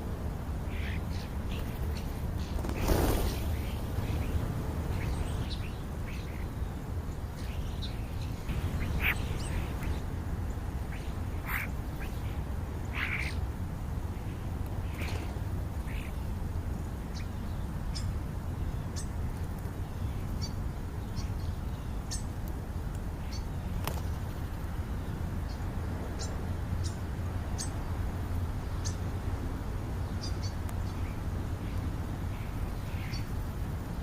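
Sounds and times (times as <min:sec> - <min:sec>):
birds chirping: 0:00.0 - 0:22.4, 0:23.2 - 0:29.2, 0:29.8 - 0:34.0
steady low rumble: 0:00.0 - 0:34.0.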